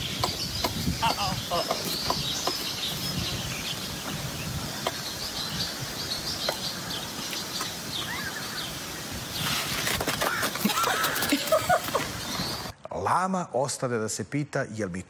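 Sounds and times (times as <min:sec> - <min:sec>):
loud rustling hiss: 0:00.0 - 0:12.7
small birds chirping: 0:00.0 - 0:13.0.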